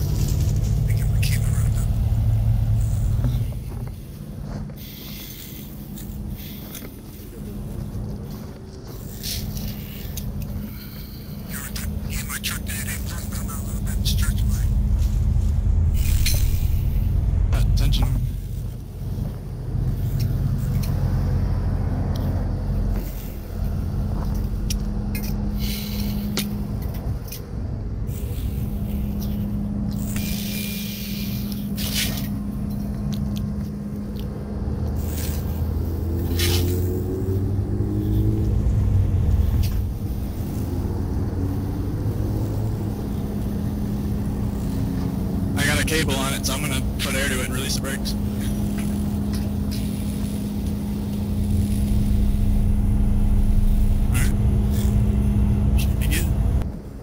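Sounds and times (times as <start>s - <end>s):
truck engine idling: 0.0s - 36.3s, 36.9s - 57.0s
wind rumbling on microphone: 0.0s - 46.2s, 48.0s - 57.0s.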